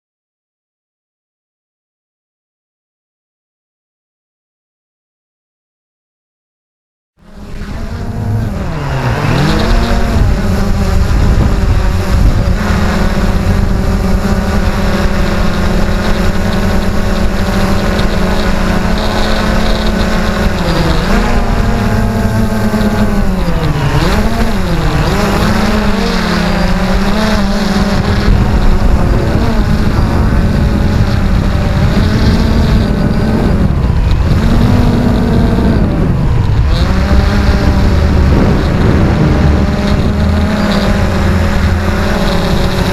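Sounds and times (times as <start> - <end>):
drone motors whining: 7.2 - 42.9
wind buffeting microphone: 7.5 - 42.9.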